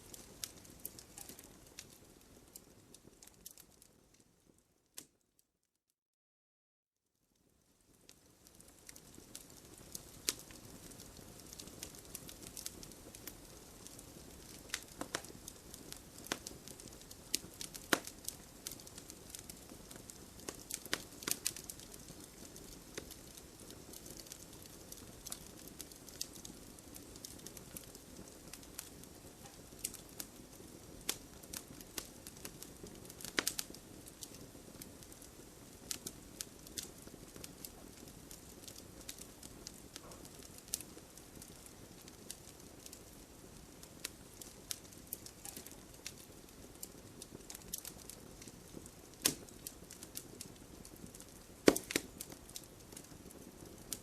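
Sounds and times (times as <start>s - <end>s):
burning logs crackling: 0.0s - 5.1s, 7.4s - 54.0s.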